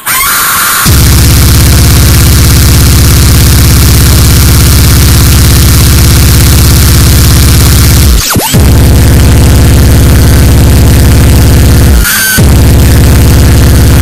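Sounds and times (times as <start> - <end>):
distorted kick drum buzzing: 0.0 - 14.0
speedcore music: 0.0 - 14.0.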